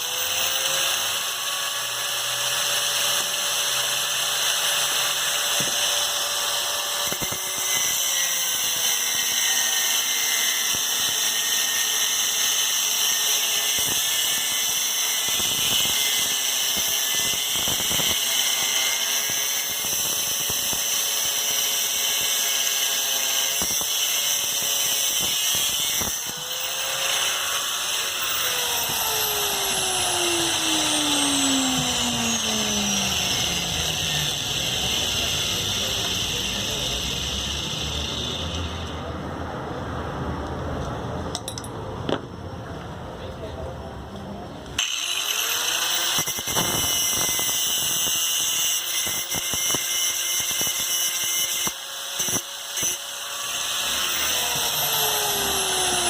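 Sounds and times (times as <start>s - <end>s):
power tool motor whining: 0.0s - 39.1s, 44.8s - 56.0s.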